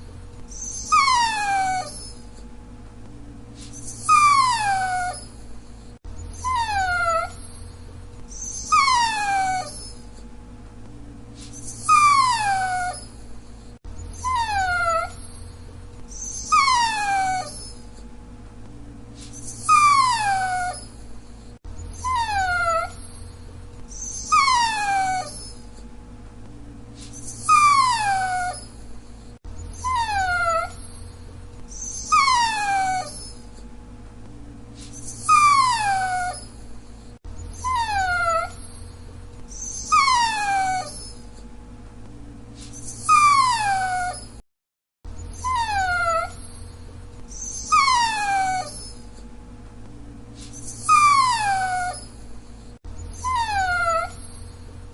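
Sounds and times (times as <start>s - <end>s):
dog whining: 0.0s - 2.5s, 3.6s - 10.3s, 11.4s - 18.1s, 19.2s - 25.9s, 27.0s - 33.7s, 34.8s - 41.5s, 42.6s - 44.4s, 45.1s - 49.3s, 50.4s - 54.9s
faint steady hum: 0.0s - 44.4s, 45.1s - 54.9s.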